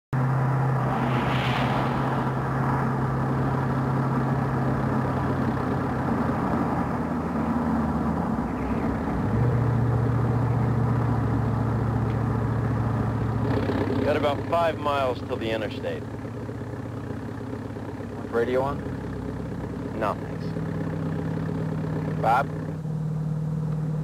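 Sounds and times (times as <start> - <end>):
car engine droning: 0.1 - 24.0
road noise: 0.1 - 24.0.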